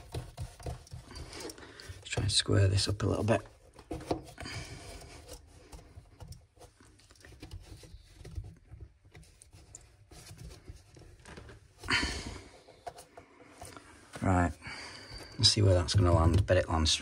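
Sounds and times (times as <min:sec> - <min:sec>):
plastic fittings rubbing: 0:00.0 - 0:17.0.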